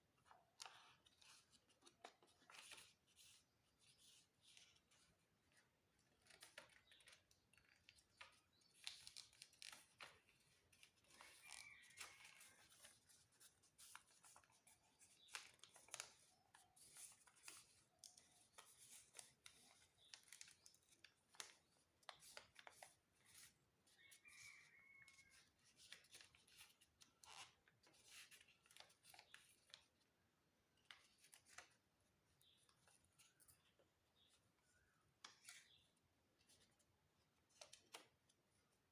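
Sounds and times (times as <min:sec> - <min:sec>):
paper being folded and crinkled: 0:00.2 - 0:38.9.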